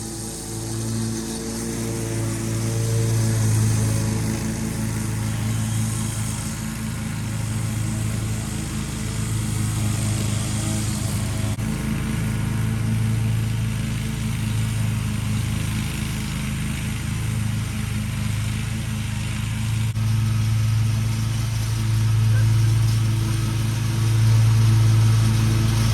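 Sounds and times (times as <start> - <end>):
mower engine running: 0.0 - 25.9.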